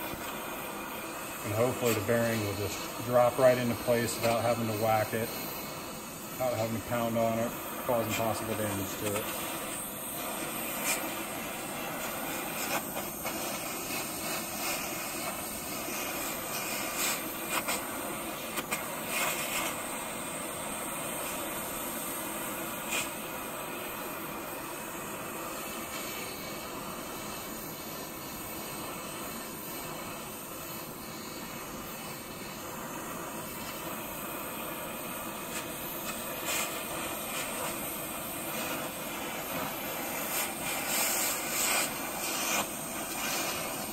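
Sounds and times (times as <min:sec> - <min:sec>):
gas torch burning: 0:00.0 - 0:43.9.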